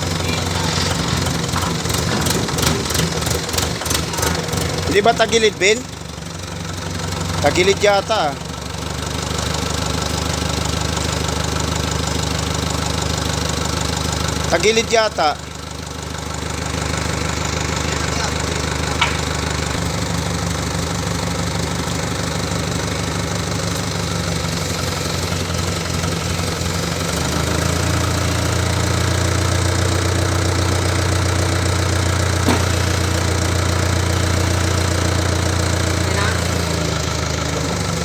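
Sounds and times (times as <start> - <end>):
diesel generator running: 0.0 - 38.0.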